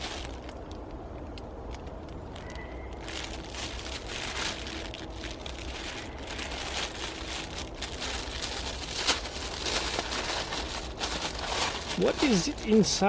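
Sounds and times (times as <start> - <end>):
parcel packaging crinkling: 0.0 - 13.0.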